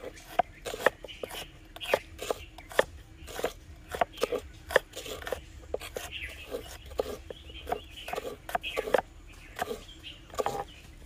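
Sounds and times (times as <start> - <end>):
onion crunching: 0.0 - 10.7.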